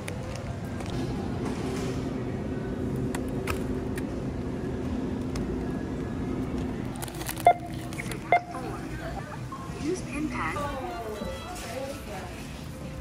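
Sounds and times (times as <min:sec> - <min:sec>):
refrigerated display cases humming: 0:00.0 - 0:13.0.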